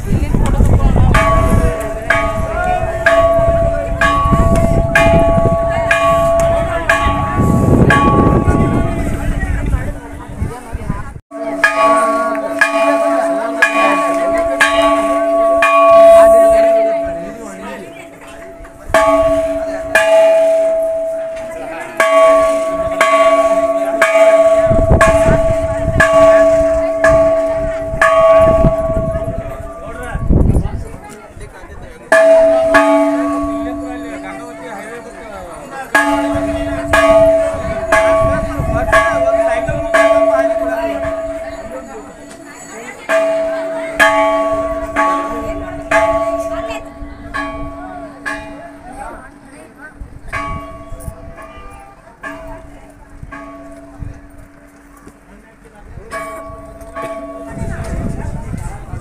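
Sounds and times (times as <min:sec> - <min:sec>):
large temple bell ringing: 0:00.0 - 0:10.3, 0:11.3 - 0:59.0.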